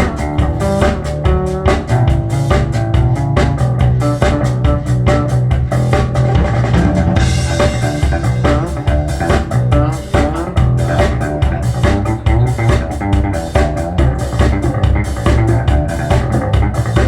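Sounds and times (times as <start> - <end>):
band music over loudspeakers: 0.0 - 17.0.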